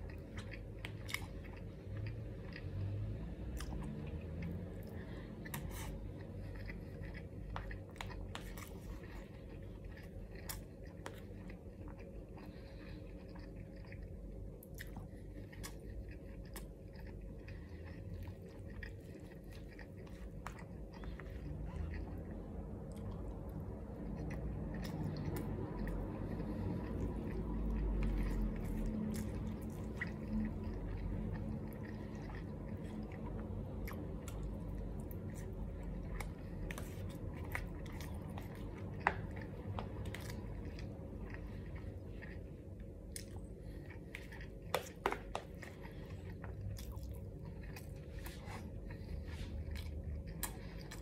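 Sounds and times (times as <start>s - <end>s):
wet chewing: 0.0s - 51.0s.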